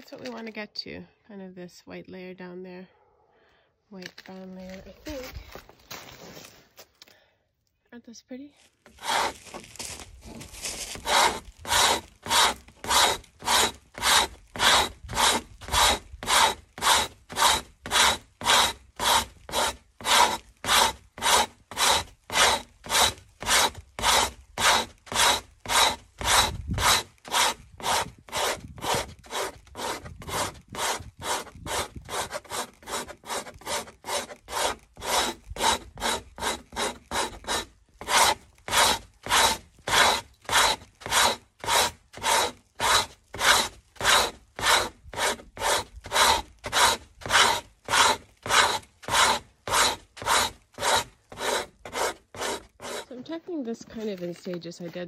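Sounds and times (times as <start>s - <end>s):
scraper shaving frozen hide: 8.8s - 55.0s.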